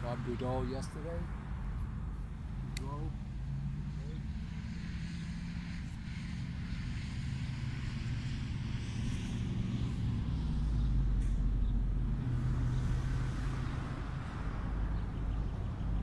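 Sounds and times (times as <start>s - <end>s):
distant engine humming: 0.0s - 16.0s
outdoor background noise: 0.0s - 16.0s.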